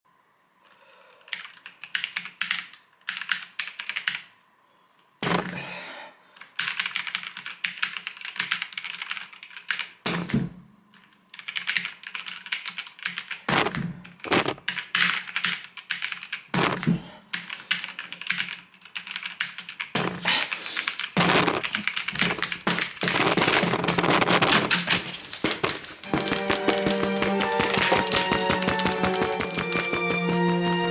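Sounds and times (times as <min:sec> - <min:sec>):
keyboard typing: 0:01.3 - 0:04.3, 0:06.4 - 0:10.0, 0:11.0 - 0:30.9.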